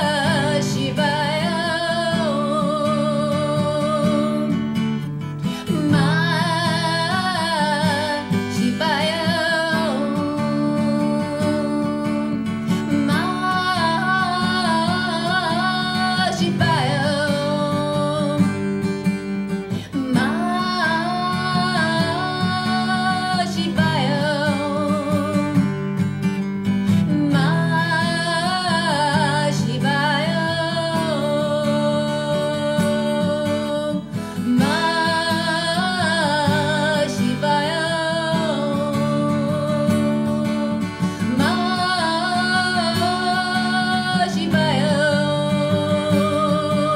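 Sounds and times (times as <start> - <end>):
person singing: 0.0 - 4.8, 5.4 - 25.9, 26.8 - 46.9
strummed acoustic guitar: 0.0 - 46.9.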